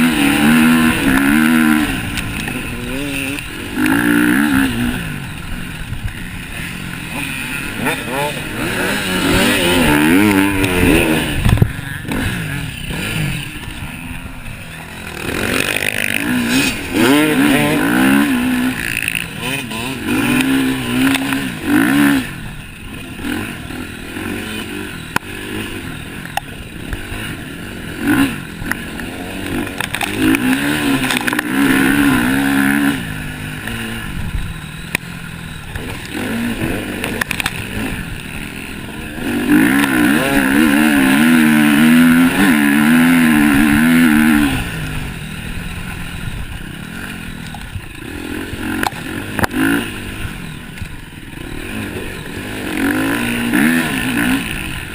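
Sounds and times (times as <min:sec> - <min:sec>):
motocross bikes revving: 0:00.0 - 0:54.9.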